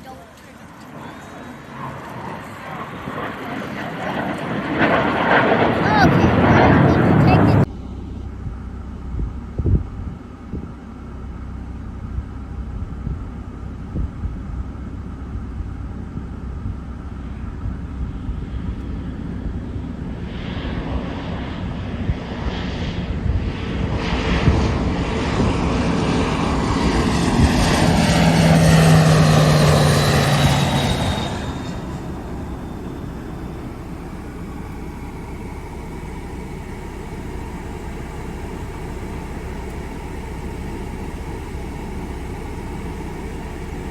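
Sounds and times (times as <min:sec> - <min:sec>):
aircraft passing close by: 0:00.0 - 0:08.9, 0:17.2 - 0:43.9.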